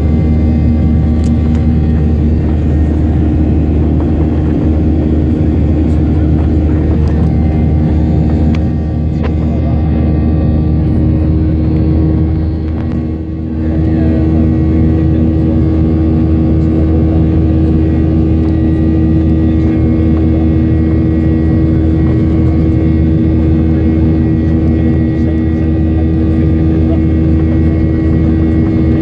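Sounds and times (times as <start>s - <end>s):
jet engines drone in cabin: 0.0s - 29.0s.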